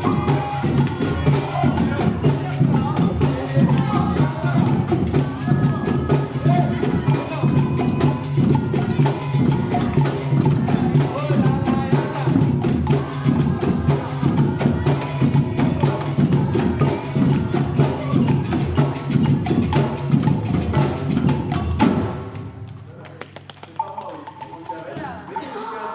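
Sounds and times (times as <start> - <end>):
sharp clicking percussion strokes: 0.0 - 25.9.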